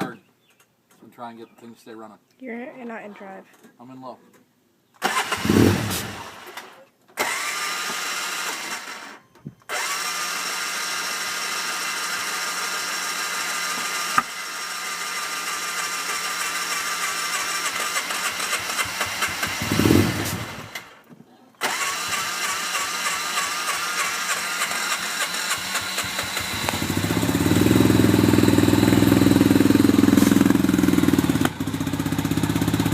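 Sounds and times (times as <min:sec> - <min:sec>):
engine starting and cutting out: 0:05.0 - 0:21.0, 0:21.6 - 0:32.9.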